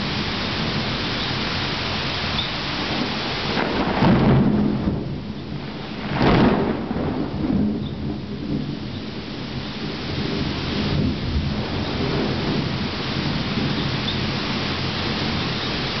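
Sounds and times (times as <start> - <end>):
steady rain: 0.0 - 16.0
thunder rolling: 2.8 - 16.0.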